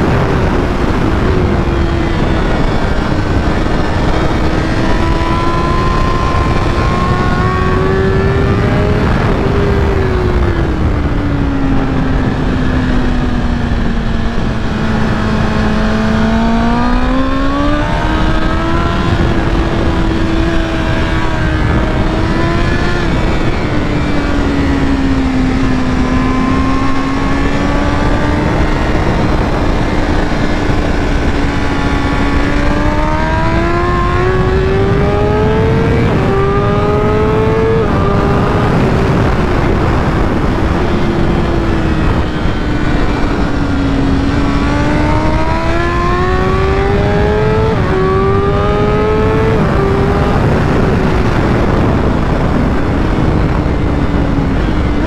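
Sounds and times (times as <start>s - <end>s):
motorcycle engine at full speed: 0.0s - 55.0s
wind rush: 0.0s - 55.0s.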